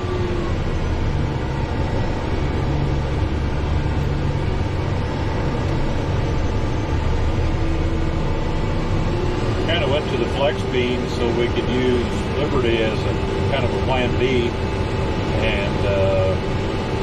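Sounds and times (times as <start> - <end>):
faint steady whine: 0.0 - 17.0
tractor engine drone: 0.0 - 17.0.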